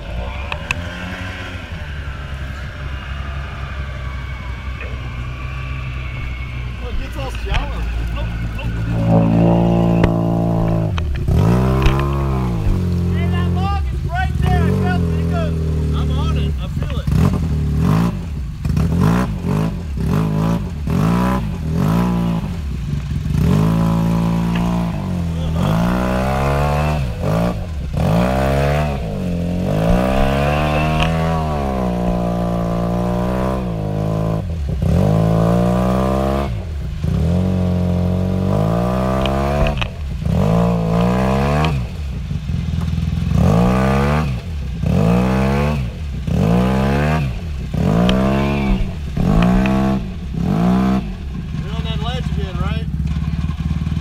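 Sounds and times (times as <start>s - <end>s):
engine revving hard: 0.0s - 54.0s
tyres churning in deep mud: 0.0s - 54.0s.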